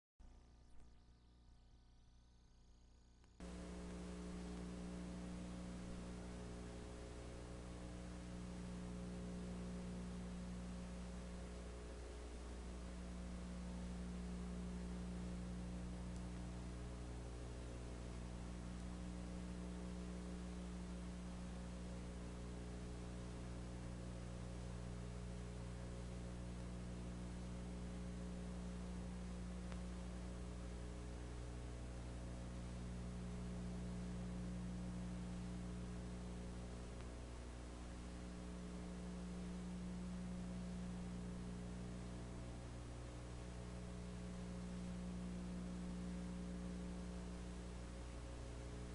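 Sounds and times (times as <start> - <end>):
electrical mains hum: 0.2 - 48.9.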